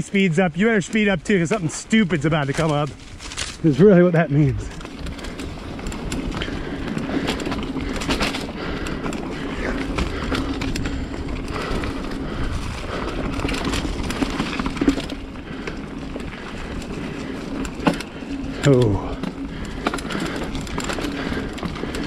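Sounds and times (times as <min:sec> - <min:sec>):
bike clicks and clatters: 0:00.0 - 0:22.0
bike tyres over dirt and rocks: 0:00.0 - 0:22.0.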